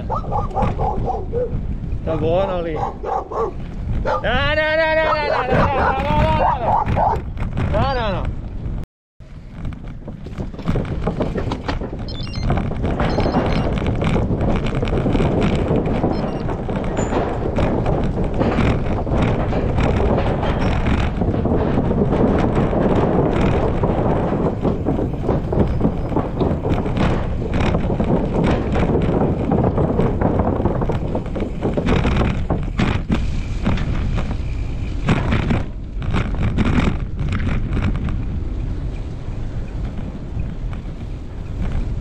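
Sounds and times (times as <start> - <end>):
tyres rattling over wooden planks: 0.0 - 42.0
tyres rolling on gravel: 0.0 - 42.0
wind rumbling on microphone: 0.0 - 42.0.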